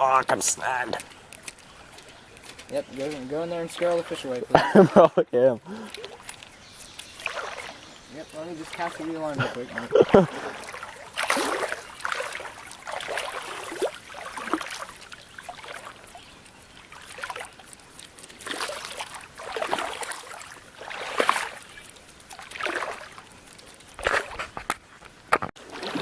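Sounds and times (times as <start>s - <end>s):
wading through creek water: 0.0s - 26.0s.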